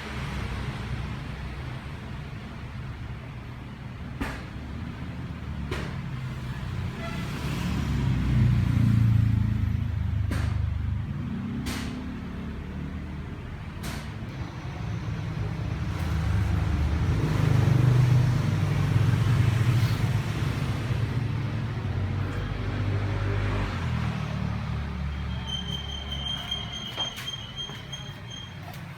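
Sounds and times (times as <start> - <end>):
motor vehicles rumbling: 0.0 - 28.9.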